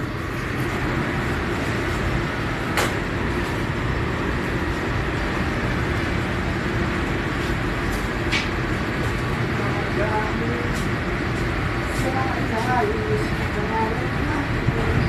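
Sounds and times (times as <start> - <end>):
extractor hood fans roaring: 0.0 - 15.0
gas burners running: 0.0 - 15.0.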